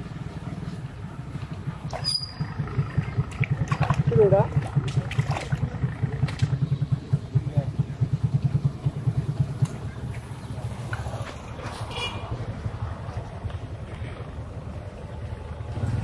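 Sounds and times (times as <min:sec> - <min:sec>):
engine chugging: 0:00.0 - 0:16.0.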